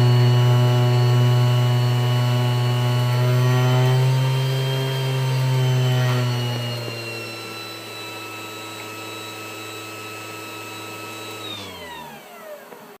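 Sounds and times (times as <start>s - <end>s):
router spindle motor whining: 0.0s - 13.0s.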